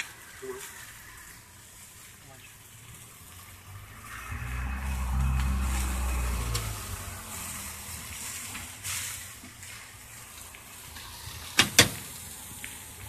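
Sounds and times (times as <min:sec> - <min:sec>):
vehicle engine passing by: 0:00.7 - 0:13.0.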